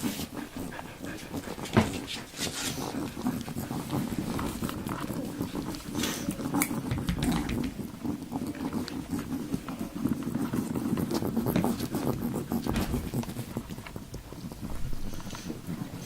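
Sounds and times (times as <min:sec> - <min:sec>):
puppies vocalizing: 0:00.0 - 0:16.0.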